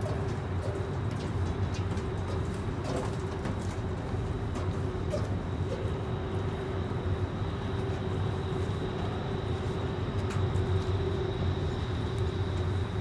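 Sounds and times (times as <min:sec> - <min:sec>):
constant hum tone: 0:00.0 - 0:13.0
low mechanical drone: 0:00.0 - 0:13.0.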